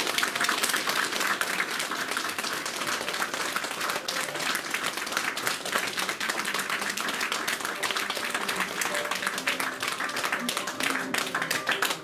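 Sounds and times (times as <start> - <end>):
small audience applauding: 0.0 - 12.0.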